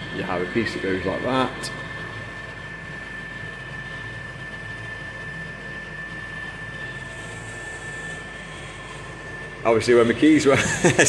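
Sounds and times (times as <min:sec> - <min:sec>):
high whine: 0:00.0 - 0:11.0.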